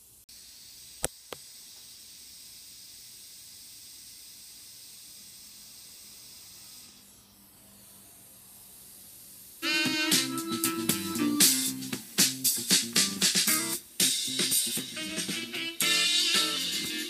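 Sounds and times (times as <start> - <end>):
amplifier hiss: 0.0 - 17.0.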